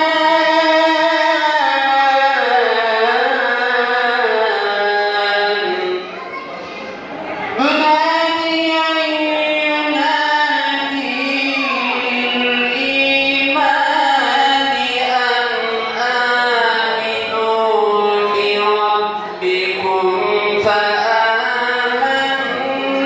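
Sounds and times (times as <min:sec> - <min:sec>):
person chanting through loudspeaker: 0:00.0 - 0:23.0.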